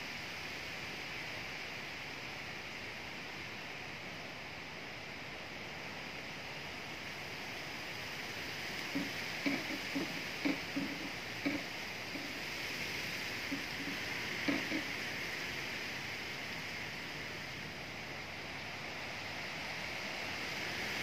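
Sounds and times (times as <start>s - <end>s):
wind rustling tree leaves: 0.0s - 21.0s.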